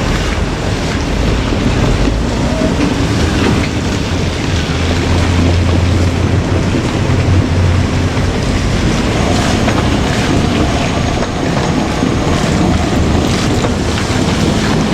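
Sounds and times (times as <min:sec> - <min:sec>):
diesel engine drone: 0:00.0 - 0:14.9
train rumbling on rails: 0:00.0 - 0:14.9.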